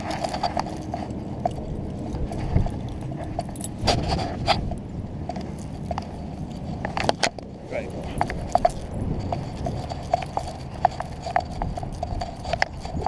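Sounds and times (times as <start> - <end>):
camera rubbing against jacket: 0.0 - 13.0
light jingles: 0.0 - 13.0.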